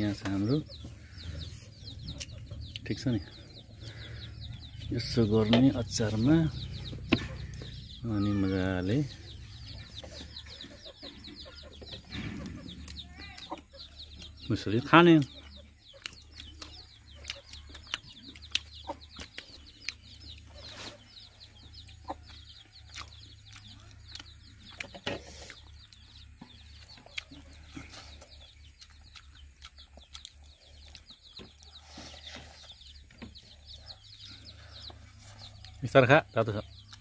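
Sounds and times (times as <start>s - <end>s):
chickens clucking and chirping: 0.0s - 37.0s.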